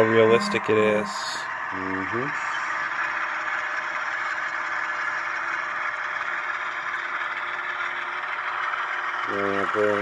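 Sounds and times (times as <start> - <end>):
diesel engine sound effect: 0.0 - 10.0
model train rolling on track: 0.0 - 10.0.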